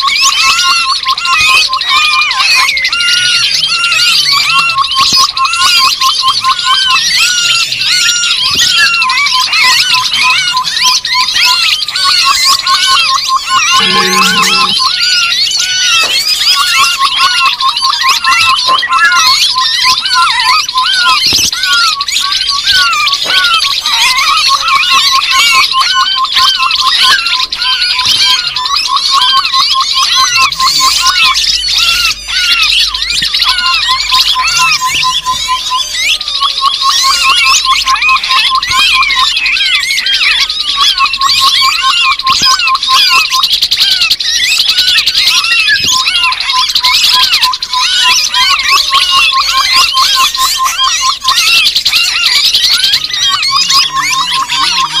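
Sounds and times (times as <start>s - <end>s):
babblers chattering chorus: 0.0s - 55.0s.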